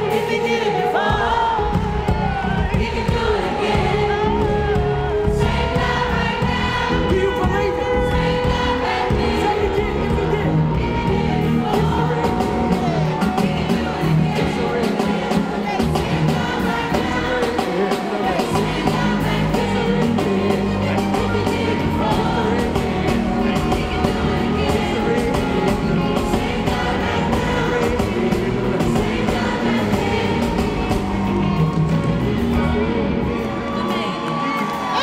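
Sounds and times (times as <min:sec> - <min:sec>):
man singing lead: 0:00.0 - 0:31.2
backing vocalists: 0:00.0 - 0:35.0
gospel band playing: 0:00.0 - 0:35.0.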